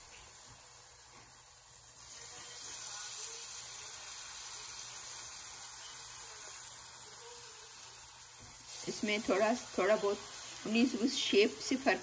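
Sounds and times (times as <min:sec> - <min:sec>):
pancake batter sizzling in a pan: 0:00.0 - 0:12.0.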